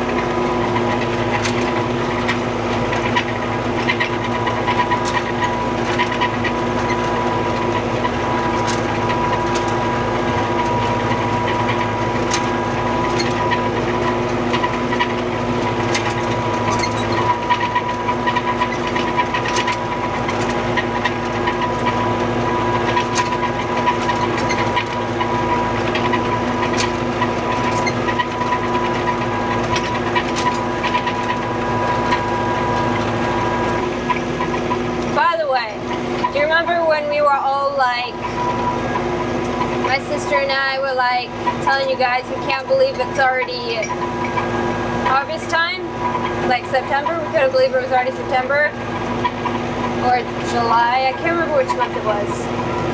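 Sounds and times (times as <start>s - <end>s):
sharp clicks and rattles: 0.0s - 52.9s
tractor engine running: 0.0s - 52.9s.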